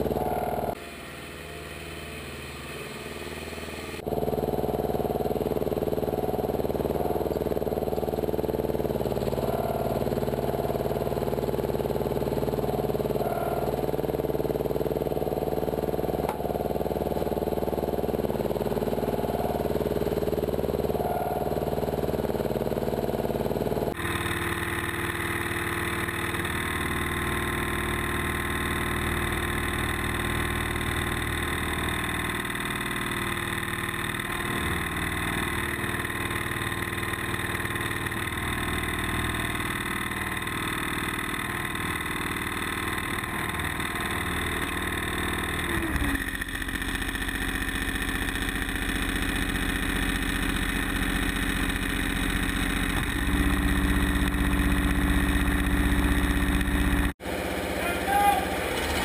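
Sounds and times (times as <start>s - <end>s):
deep hum: 0.0s - 33.2s, 33.8s - 57.2s
engine running: 0.0s - 59.0s.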